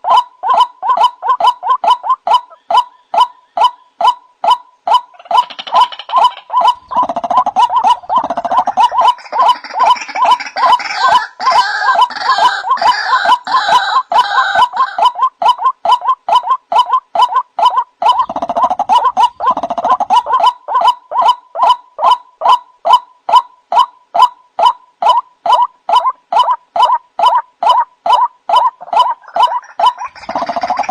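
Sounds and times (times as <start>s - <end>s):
gurgling bird chorus: 0.0s - 30.9s
waterhen kwak calls: 0.0s - 30.9s.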